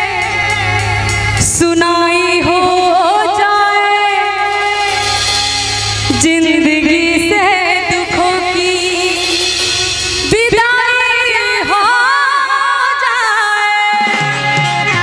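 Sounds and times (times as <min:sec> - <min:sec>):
harmonium: 0:00.0 - 0:15.0
tabla: 0:00.0 - 0:15.0
woman singing: 0:00.0 - 0:15.0.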